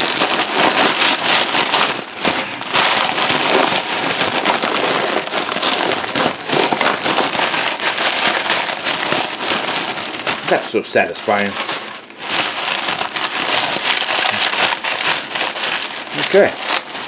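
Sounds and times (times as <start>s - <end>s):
chips crushed in plastic bag: 0.0s - 17.0s.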